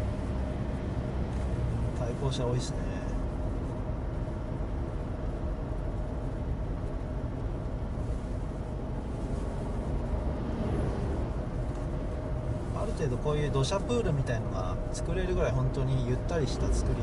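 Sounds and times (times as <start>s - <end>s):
in-cabin road and engine noise: 0.0s - 17.0s.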